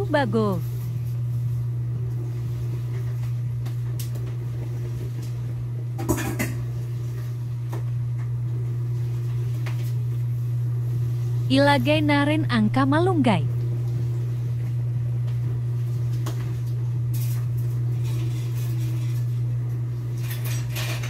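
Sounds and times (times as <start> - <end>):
coconut milk cooking in wok: 0.0 - 11.5, 13.5 - 21.0
steady low hum: 0.0 - 21.0.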